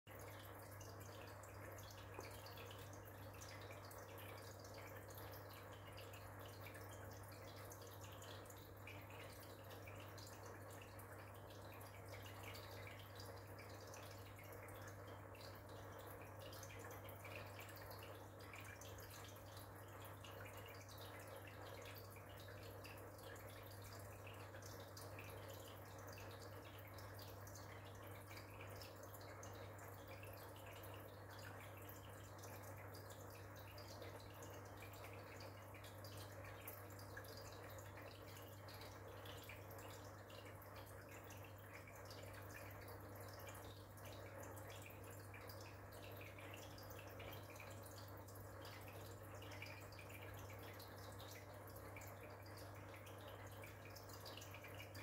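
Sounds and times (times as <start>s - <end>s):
aquarium filter hum: 0.1s - 55.0s
water trickling and dripping: 0.1s - 55.0s.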